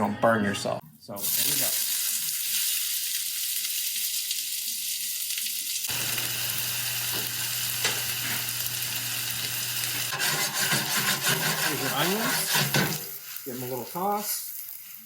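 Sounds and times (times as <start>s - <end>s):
onions sizzling in a pan: 1.2s - 15.0s.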